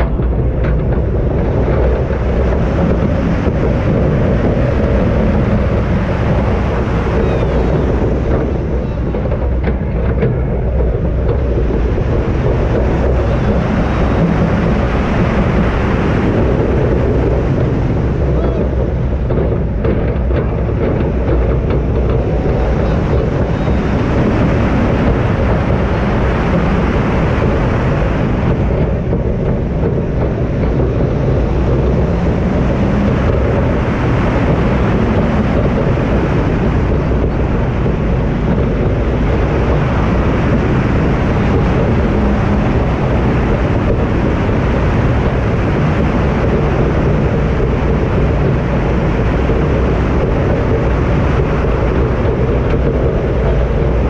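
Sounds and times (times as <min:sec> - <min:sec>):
roller coaster rumbling on track: 0:00.0 - 0:54.0
wind on microphone: 0:00.0 - 0:54.0.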